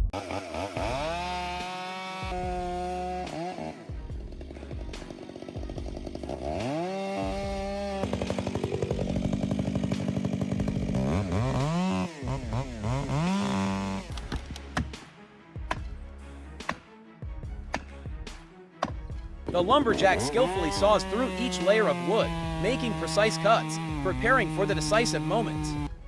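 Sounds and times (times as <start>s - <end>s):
chainsaw engine revving: 0.0s - 15.0s, 19.5s - 26.0s.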